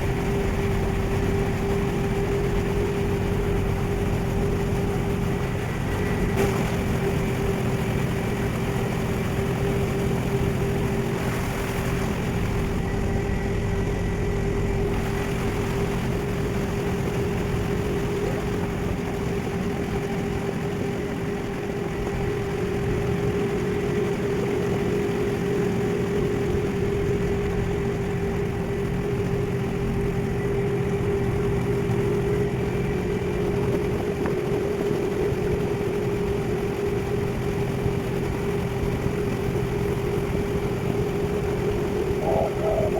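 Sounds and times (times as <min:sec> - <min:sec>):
ferry engine rumbling: 0:00.0 - 0:42.9.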